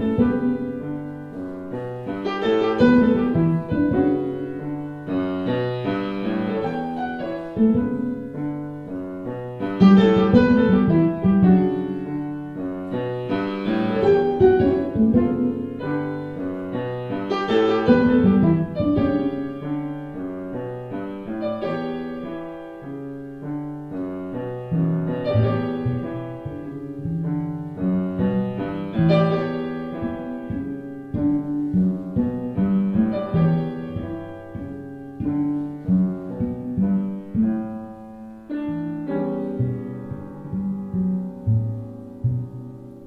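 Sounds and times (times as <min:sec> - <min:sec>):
grand piano playing: 0:00.0 - 0:43.0.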